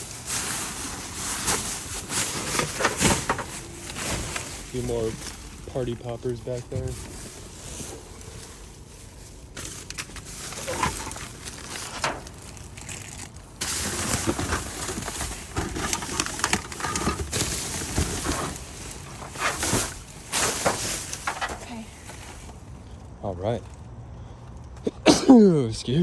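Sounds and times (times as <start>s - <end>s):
plastic bags rustling and crinkling: 0.0s - 23.6s.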